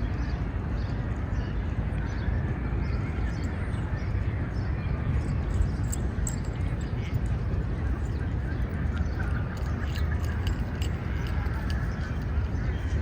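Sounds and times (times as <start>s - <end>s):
birds chirping: 0.0s - 13.0s
low city rumble: 0.0s - 13.0s.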